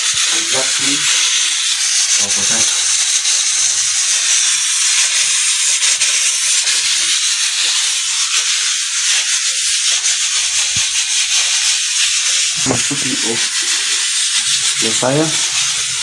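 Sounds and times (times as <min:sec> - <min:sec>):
steam hissing from pot: 0:00.0 - 0:16.0.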